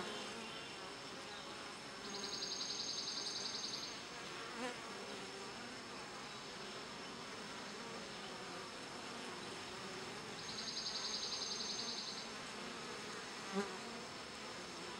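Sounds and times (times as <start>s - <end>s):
honeybees buzzing: 0.0s - 14.9s.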